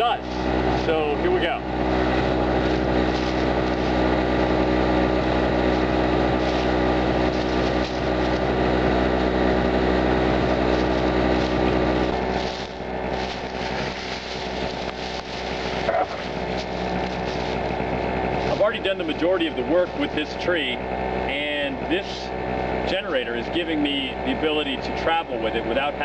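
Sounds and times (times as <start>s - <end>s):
portable generator engine running: 0.0s - 26.0s.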